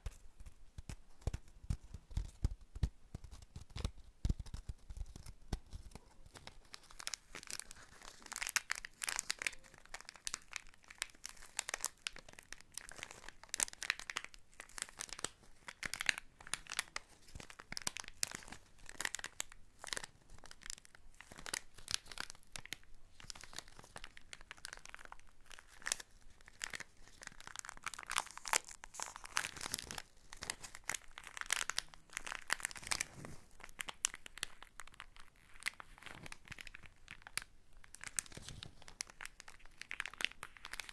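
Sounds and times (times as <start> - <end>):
hands crumpling crinkly material: 0.0 - 40.9.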